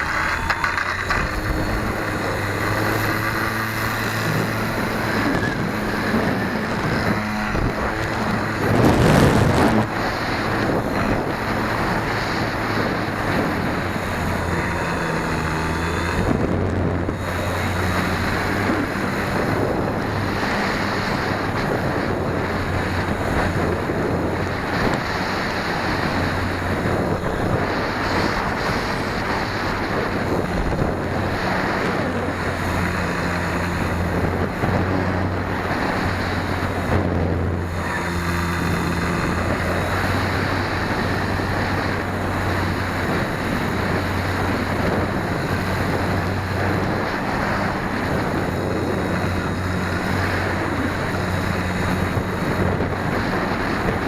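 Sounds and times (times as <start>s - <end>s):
electric motor and propeller drone: 0.0s - 54.0s
wind rushing over microphone: 0.0s - 54.0s.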